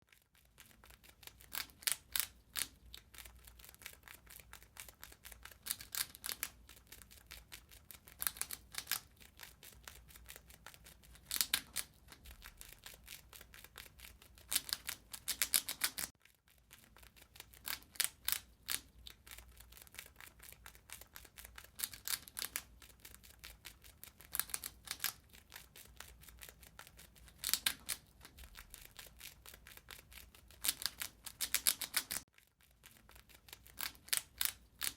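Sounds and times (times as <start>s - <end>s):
rat gnawing and chewing: 0.0s - 34.9s.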